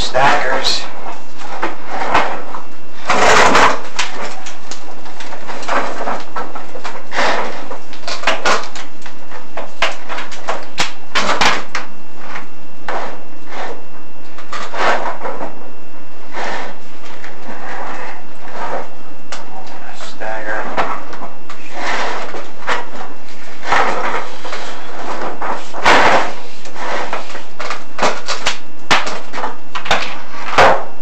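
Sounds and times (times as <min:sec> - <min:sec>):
camera scraping inside a flue: 0:00.2 - 0:10.5, 0:11.9 - 0:30.6.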